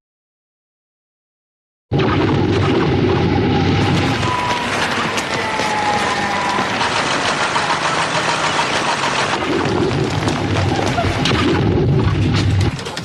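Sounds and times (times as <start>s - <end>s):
loud rumbling roar: 2.0s - 12.8s.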